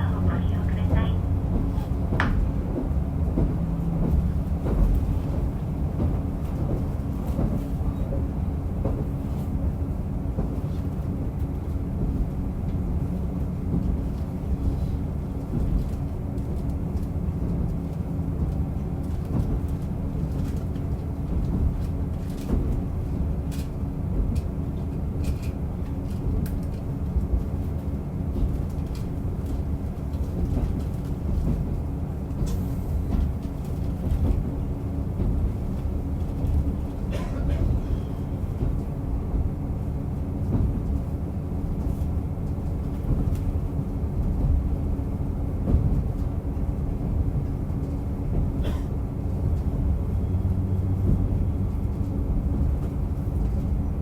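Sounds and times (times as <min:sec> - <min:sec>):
railcar engine and wheel rumble: 0:00.0 - 0:54.0.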